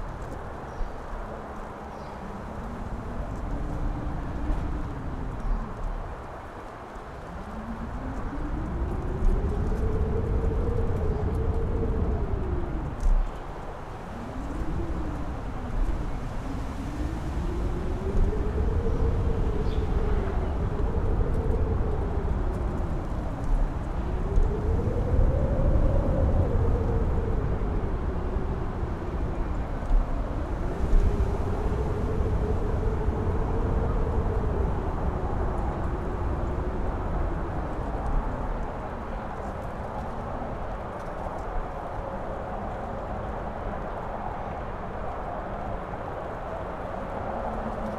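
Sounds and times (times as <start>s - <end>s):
wind buffeting rumble: 0.0s - 47.9s
wind howling: 0.0s - 47.9s.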